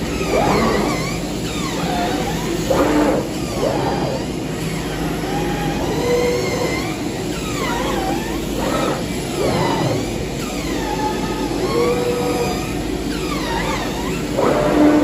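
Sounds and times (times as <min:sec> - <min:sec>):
drive motors whining: 0:00.0 - 0:15.0
steady low hum: 0:00.0 - 0:15.0.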